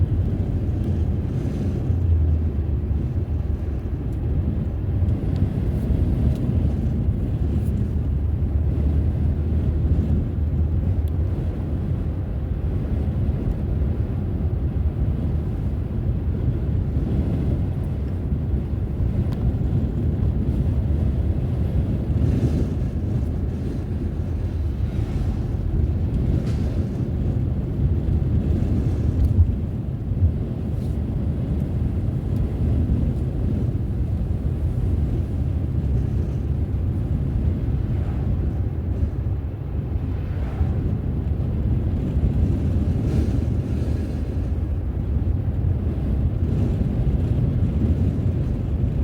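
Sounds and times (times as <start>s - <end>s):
car driving on road: 0.0s - 49.0s.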